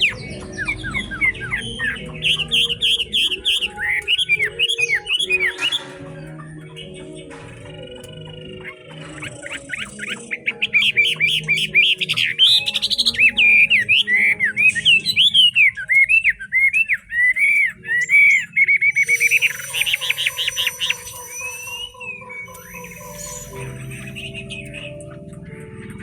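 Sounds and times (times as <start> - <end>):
bird singing whistled song: 0.0 - 26.0.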